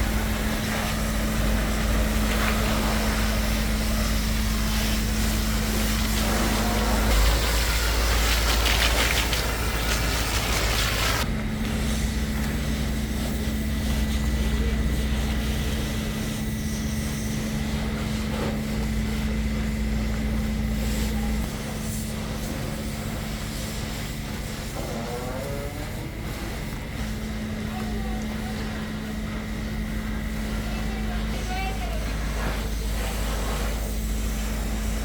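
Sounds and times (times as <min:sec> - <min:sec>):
machine humming: 0:00.0 - 0:35.0
pressure washer jet hissing: 0:00.0 - 0:35.0.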